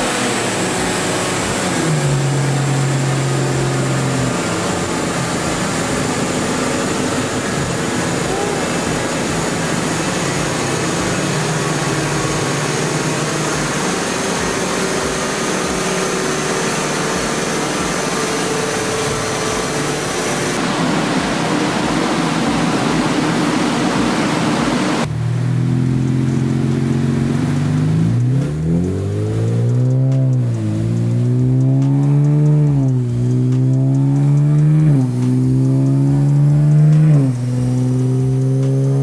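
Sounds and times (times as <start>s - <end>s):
car engine on dyno revving: 0.0s - 39.0s
heavy rush of noise: 0.0s - 39.0s.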